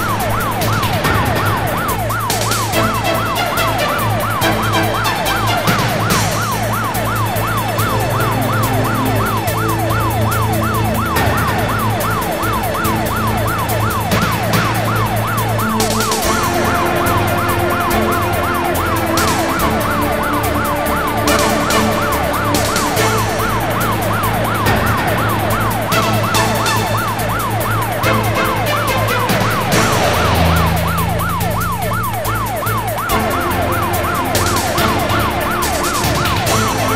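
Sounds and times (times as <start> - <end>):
car running: 0.0 - 36.9
police siren yelping: 0.0 - 36.9.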